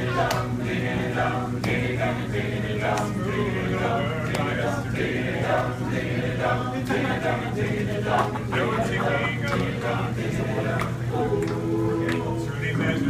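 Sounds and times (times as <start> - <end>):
male a cappella group singing: 0.0 - 13.0.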